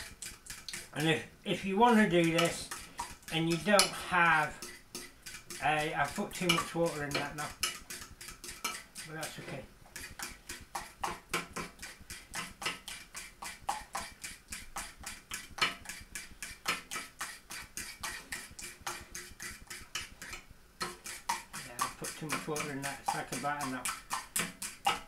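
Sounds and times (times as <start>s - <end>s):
fork clicking against bowl: 0.0s - 0.9s, 2.2s - 9.1s, 10.0s - 25.0s.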